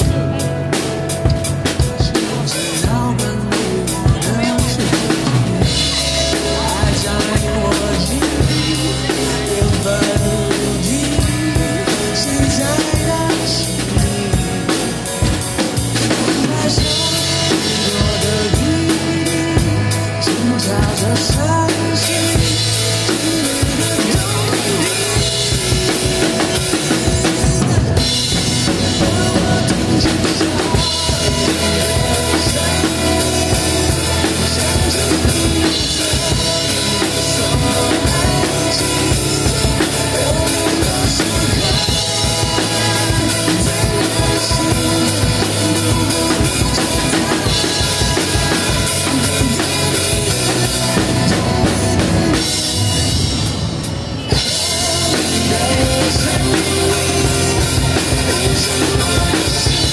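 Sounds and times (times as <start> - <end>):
drum kit beat: 0.0 - 59.9
pop ballad: 0.0 - 59.9.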